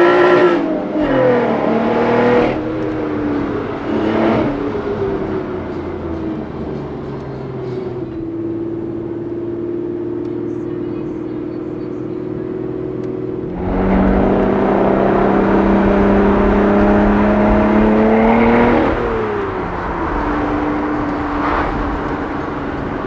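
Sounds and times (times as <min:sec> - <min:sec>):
car engine through loud exhaust: 0:00.0 - 0:23.0.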